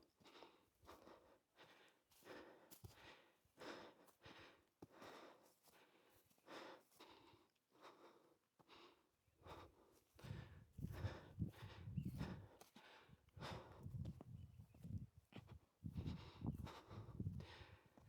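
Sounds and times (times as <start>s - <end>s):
person breathing hard: 0.2s - 14.0s, 15.9s - 18.0s.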